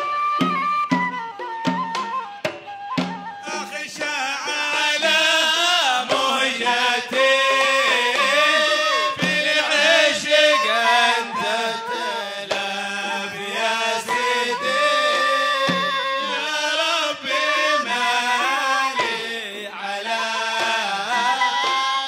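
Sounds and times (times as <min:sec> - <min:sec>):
hand drums: 0:00.0 - 0:22.0
men singing ornamented melody: 0:03.4 - 0:22.0.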